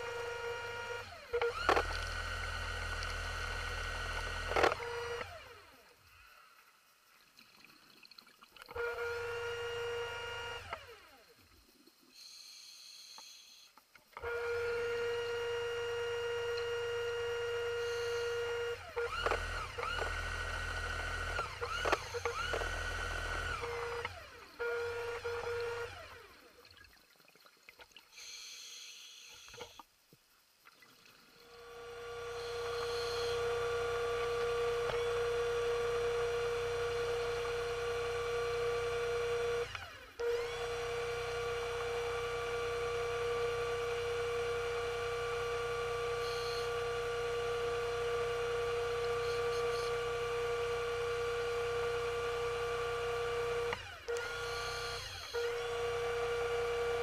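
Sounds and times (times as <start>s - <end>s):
underwater scooter motor whine: 0.0s - 6.4s, 8.6s - 11.4s, 12.2s - 26.6s, 31.4s - 57.0s.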